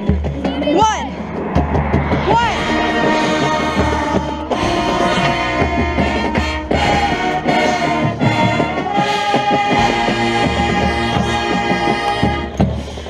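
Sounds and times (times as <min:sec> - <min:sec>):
marching band brass chords: 0:00.0 - 0:13.0.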